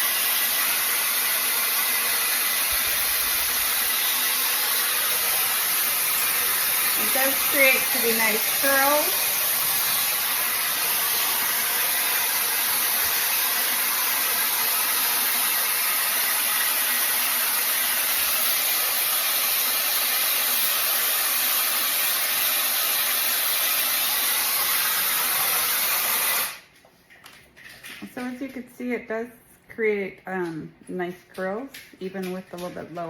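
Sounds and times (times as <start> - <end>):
hair dryer brush blowing: 0.0 - 26.7.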